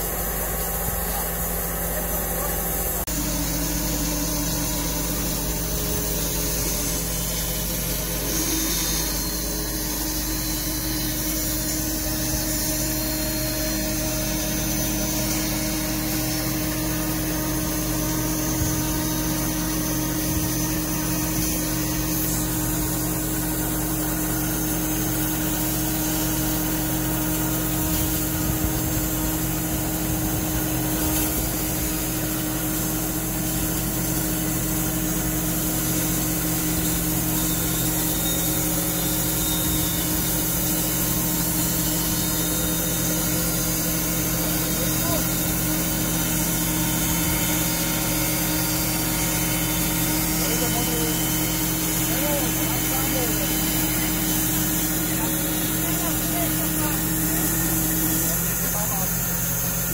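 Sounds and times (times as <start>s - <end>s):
band sawmill cutting a log: 0.0s - 59.9s.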